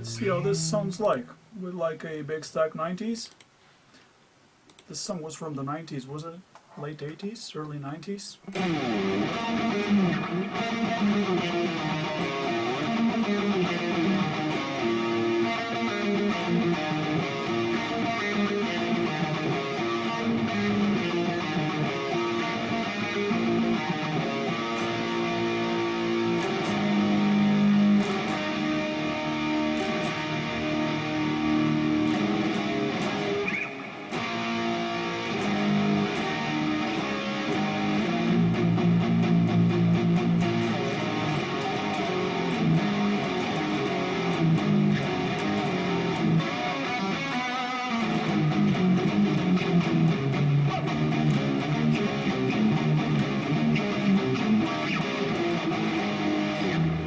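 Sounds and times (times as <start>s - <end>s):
distorted electric guitar riffs: 8.5s - 57.0s.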